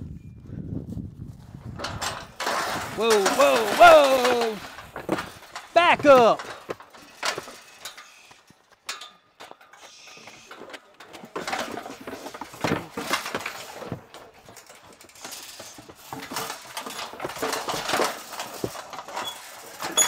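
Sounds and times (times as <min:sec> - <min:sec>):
metal panels clanking and rattling: 0:01.7 - 0:09.8, 0:10.5 - 0:20.0.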